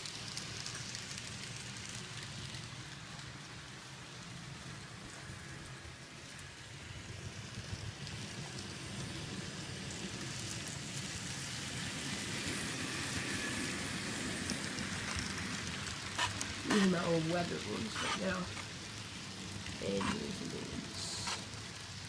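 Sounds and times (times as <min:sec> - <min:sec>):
model train wheels on rail: 0:00.0 - 0:22.0.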